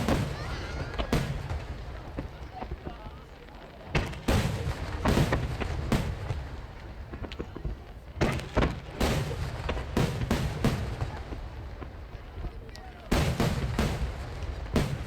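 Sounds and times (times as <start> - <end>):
rolling echo: 0.0 - 15.0.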